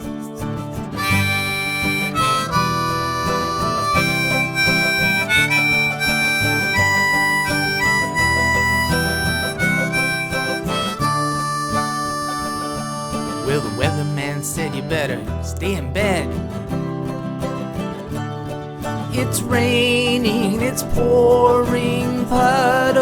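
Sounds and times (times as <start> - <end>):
guitar accompaniment: 0.0 - 23.0
harmonica melody: 0.0 - 23.0.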